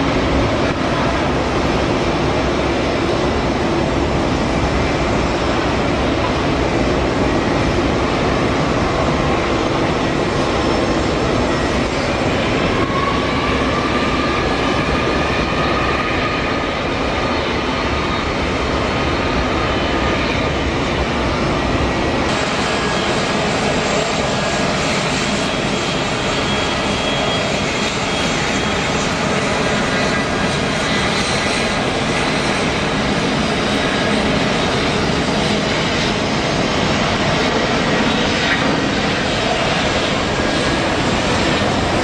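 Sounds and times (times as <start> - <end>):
jet engines rumbling and hissing: 0.0 - 42.0.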